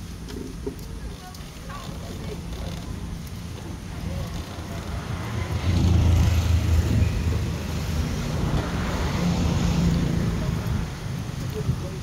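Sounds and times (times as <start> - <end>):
vehicle engine running: 1.0 - 12.0.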